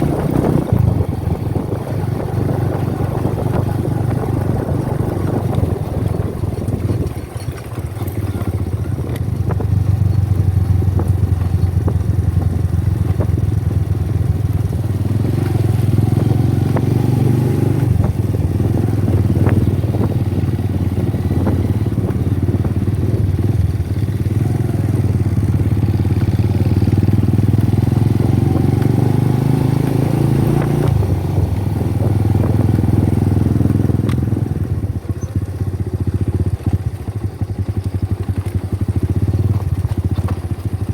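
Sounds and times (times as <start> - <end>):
small engine running with rattle: 0.0 - 29.6, 30.9 - 40.9.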